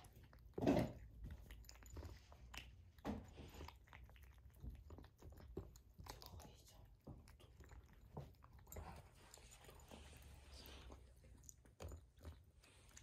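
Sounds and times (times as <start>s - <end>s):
cats chewing food: 0.0s - 13.0s.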